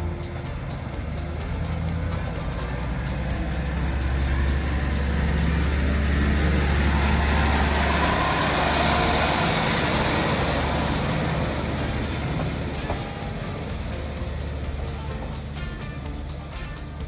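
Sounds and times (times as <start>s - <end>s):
diesel railcar engine drone: 0.0s - 17.0s
rushing rumble of train: 0.0s - 17.0s.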